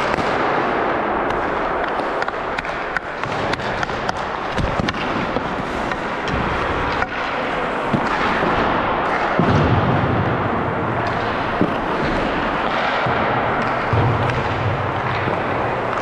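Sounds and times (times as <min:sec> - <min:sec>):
ice rink din: 0:00.0 - 0:16.0
pucks hitting boards: 0:00.0 - 0:16.0.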